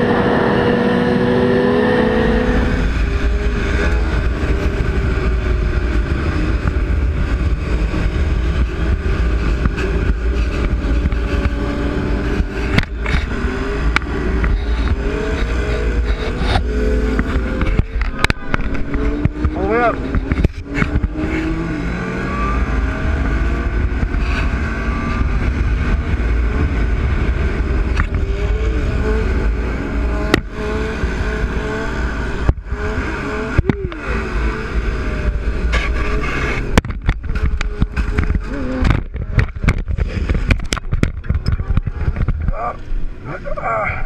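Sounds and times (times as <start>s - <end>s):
dense steady rumble: 0.0s - 44.0s
motorcycle engines revving: 0.0s - 44.0s.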